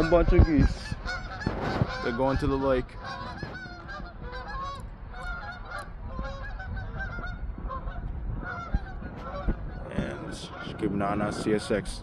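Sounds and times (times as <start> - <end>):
geese honking: 0.0 - 11.8.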